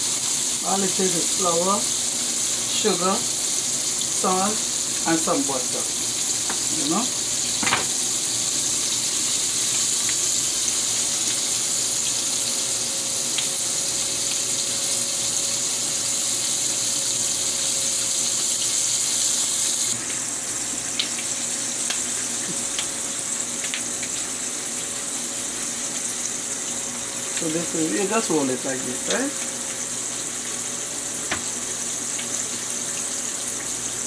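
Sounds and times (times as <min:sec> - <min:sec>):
oil frying and sizzling: 0:00.0 - 0:34.0.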